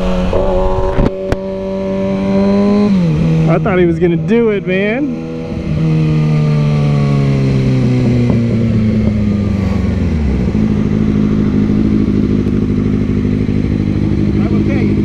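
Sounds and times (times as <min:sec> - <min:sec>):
motorcycle engine slowing: 0:02.6 - 0:15.0.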